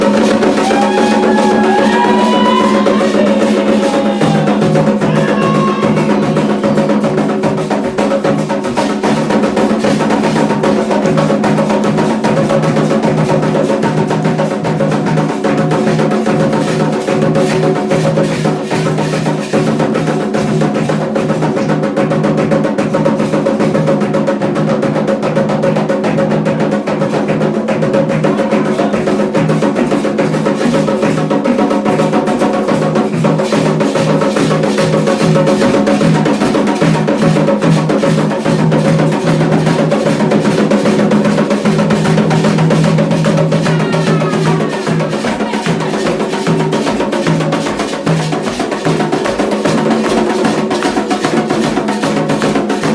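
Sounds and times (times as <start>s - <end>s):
hand drums playing fast rhythm: 0.0s - 52.9s.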